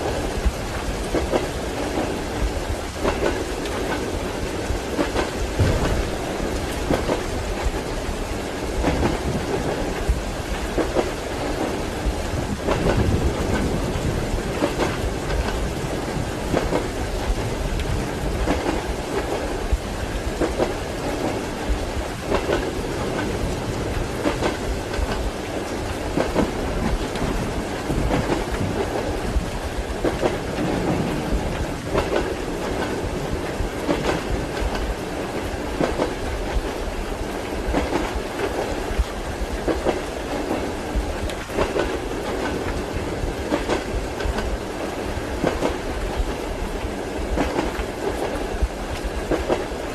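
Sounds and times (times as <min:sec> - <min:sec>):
rain hissing: 0:00.0 - 0:49.9
train wheels clacking over rail joints: 0:00.0 - 0:49.9.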